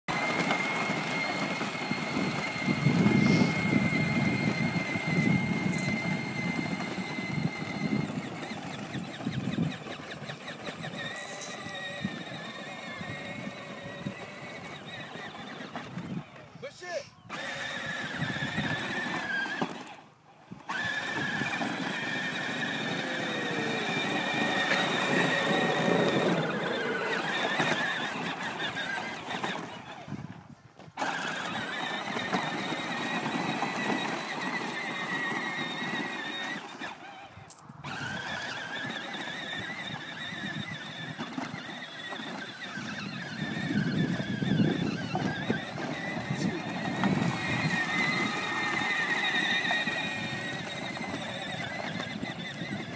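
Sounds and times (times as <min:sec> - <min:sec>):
electric toy motor whining: 0:00.1 - 0:16.6, 0:17.2 - 0:52.9.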